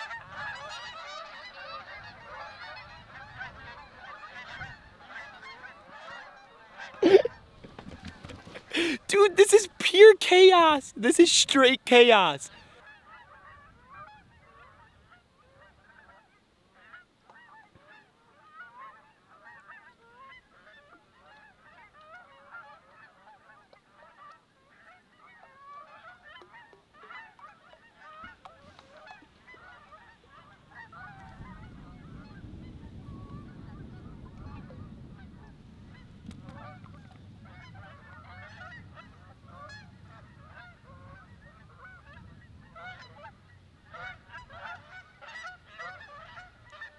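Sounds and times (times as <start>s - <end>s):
geese honking: 0.0s - 46.9s.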